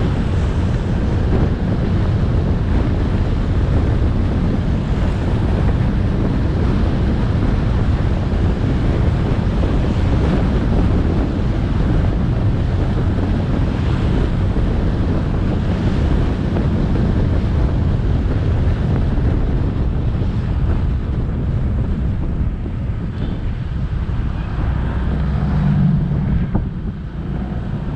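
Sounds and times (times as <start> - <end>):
road noise: 0.0 - 27.9
wind rushing over microphone: 0.0 - 27.9.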